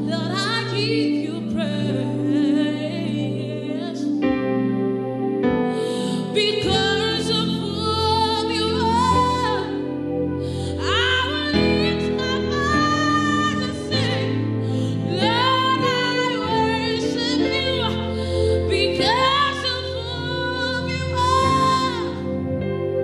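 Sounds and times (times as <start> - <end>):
person singing: 0.0 - 4.5, 5.5 - 23.0
sustained chords: 0.0 - 23.0.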